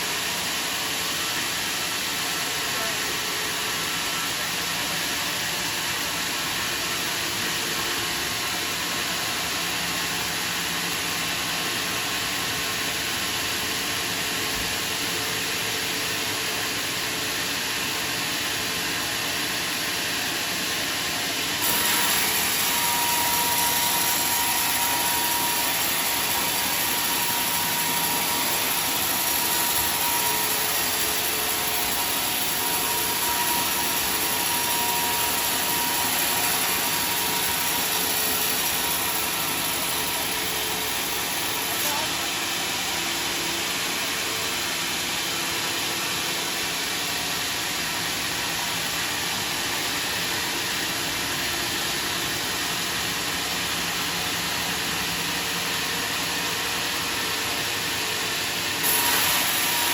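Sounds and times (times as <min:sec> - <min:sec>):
sawmill machinery running: 0:00.0 - 0:59.9
steady high whine: 0:00.1 - 0:58.8.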